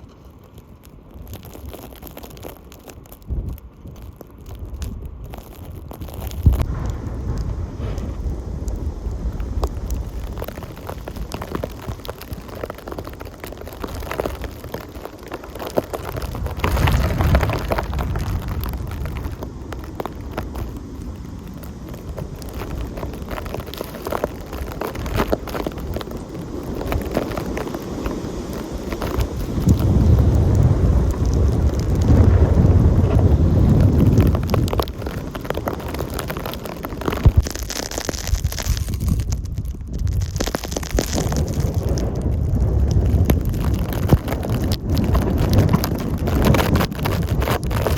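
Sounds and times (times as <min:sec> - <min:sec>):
small ticks: 0:00.0 - 0:07.0, 0:08.7 - 0:47.9
wind gusting against microphone: 0:01.1 - 0:47.9.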